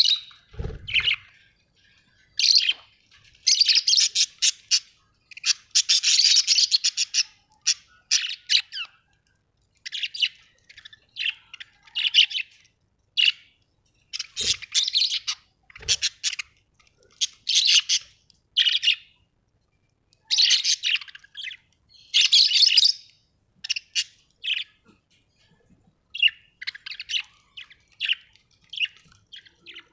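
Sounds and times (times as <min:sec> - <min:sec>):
budgerigars chirping and chattering: 0:00.0 - 0:01.4, 0:02.4 - 0:09.1, 0:09.8 - 0:19.1, 0:20.2 - 0:24.8, 0:26.1 - 0:29.9.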